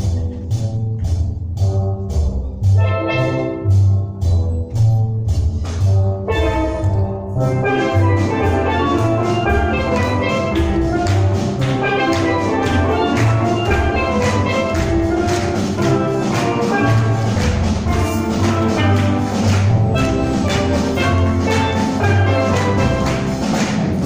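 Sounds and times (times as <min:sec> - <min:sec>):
steel drum ensemble playing: 0:00.0 - 0:24.0.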